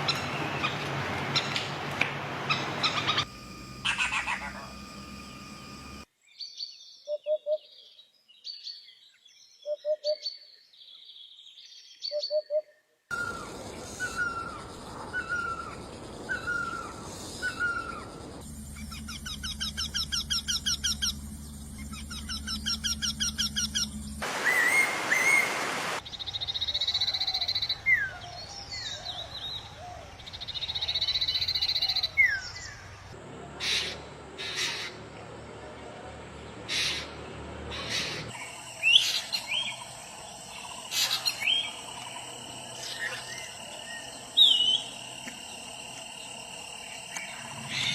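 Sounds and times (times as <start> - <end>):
wild birds singing: 0.0 - 47.9.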